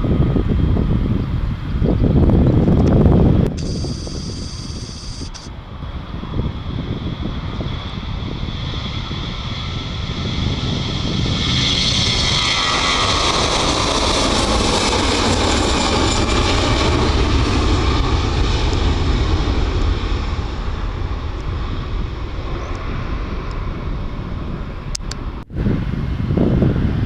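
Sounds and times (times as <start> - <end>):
jet engine deep rumble: 0.0 - 27.0
jet engine whine: 0.0 - 27.0.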